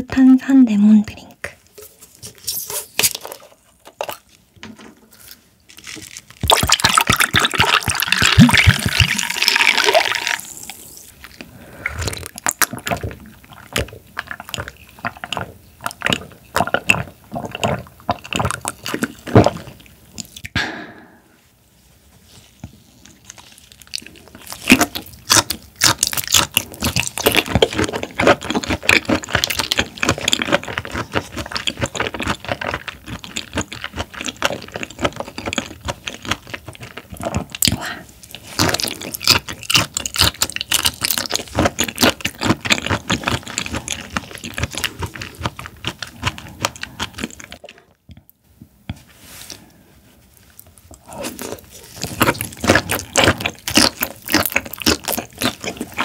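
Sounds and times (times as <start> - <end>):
wet chewing mouth sounds: 6.4 - 20.6, 22.8 - 48.4, 50.6 - 56.0.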